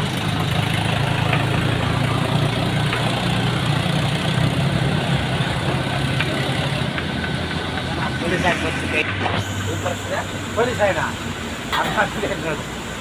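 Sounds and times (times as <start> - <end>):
constant rushing noise: 0.0 - 13.0
vehicle engine idling: 0.0 - 13.0.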